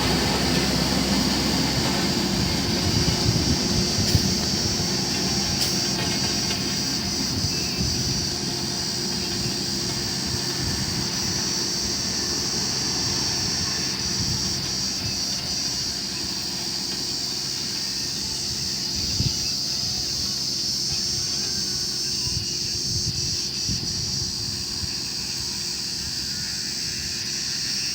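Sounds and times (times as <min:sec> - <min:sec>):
diesel engine running: 0:00.0 - 0:27.9
high-pitched insect drone: 0:00.0 - 0:27.9.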